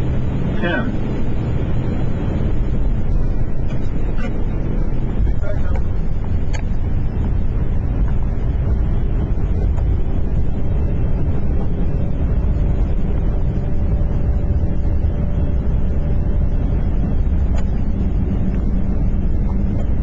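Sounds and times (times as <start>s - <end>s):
aircraft rumble on runway: 0.0s - 20.0s
faint steady hum: 0.0s - 20.0s.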